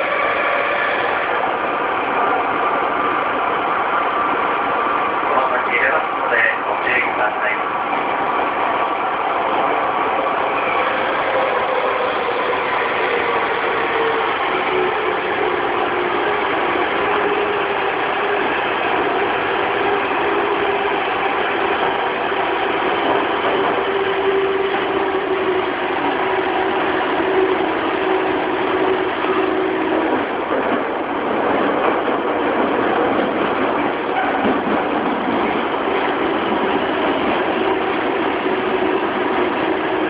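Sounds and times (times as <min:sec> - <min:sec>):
train wheels on rail: 0:00.0 - 0:40.0.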